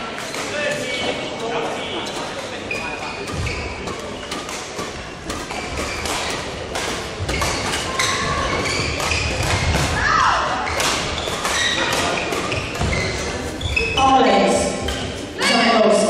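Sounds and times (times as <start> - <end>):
rackets hitting shuttlecock: 0.2 - 14.0, 14.8 - 15.4
shoes squeaking on floor: 0.8 - 15.9.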